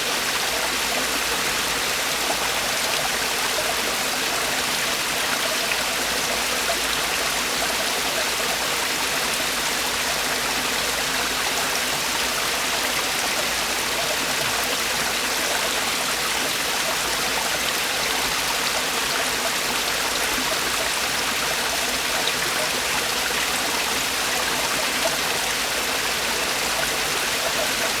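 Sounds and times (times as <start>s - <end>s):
stream water rushing over rocks: 0.0s - 28.0s.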